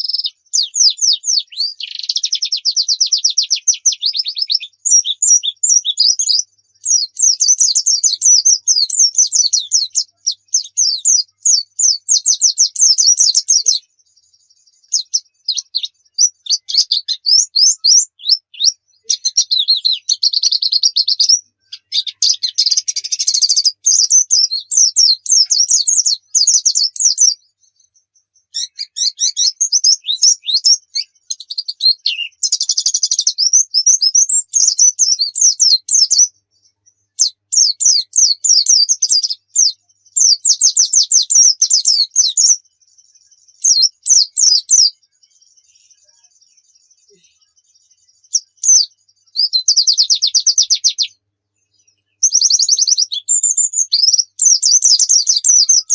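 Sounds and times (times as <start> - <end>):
bird twittering rapidly: 0.0 - 27.9, 28.5 - 46.2, 48.1 - 51.2, 52.2 - 55.9.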